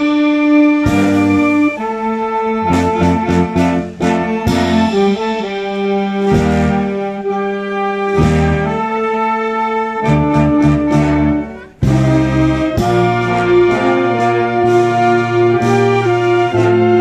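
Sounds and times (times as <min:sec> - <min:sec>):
wind band playing chords: 0:00.0 - 0:17.0.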